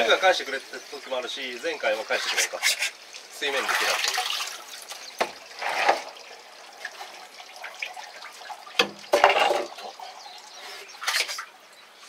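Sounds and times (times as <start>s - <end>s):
water splashing and sloshing: 0.0s - 12.0s
water trickling: 0.0s - 12.0s.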